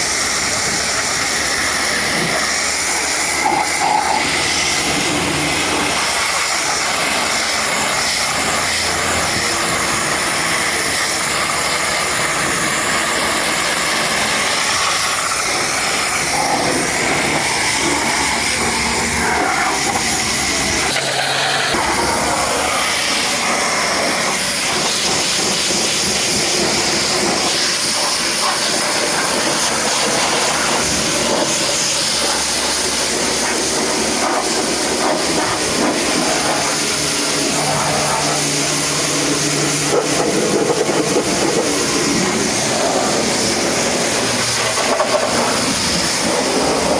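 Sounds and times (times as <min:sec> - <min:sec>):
pressure washer spraying water: 0:00.0 - 0:46.9.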